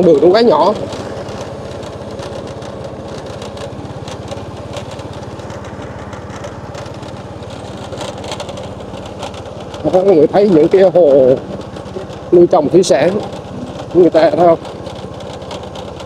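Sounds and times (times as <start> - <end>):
motorbike engine running: 0.0 - 16.0.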